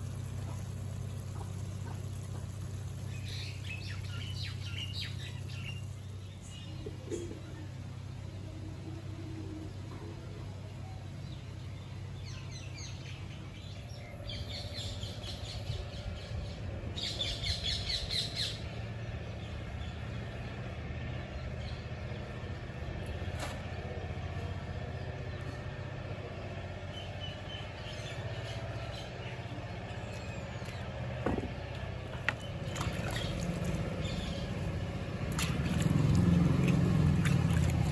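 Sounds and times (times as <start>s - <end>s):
birds chirping: 0.0s - 37.9s
low background rumble: 0.0s - 37.9s.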